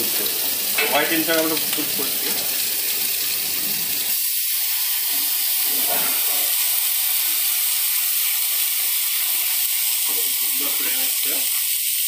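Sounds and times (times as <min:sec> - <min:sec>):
wine sizzling in a hot pan: 0:00.0 - 0:12.0.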